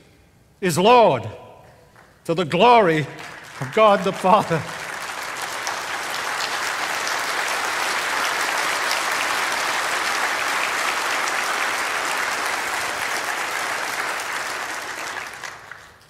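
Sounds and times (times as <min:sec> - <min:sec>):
large audience applauding: 0:02.0 - 0:16.0.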